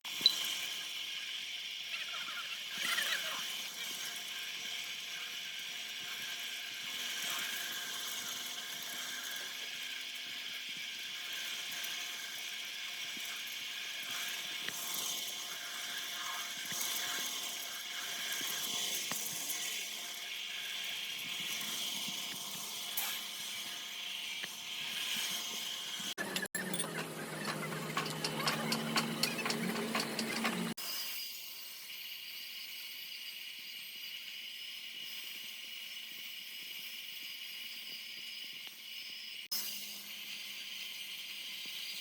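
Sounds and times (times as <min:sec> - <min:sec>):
high-pitched machinery running: 0:00.1 - 0:42.0.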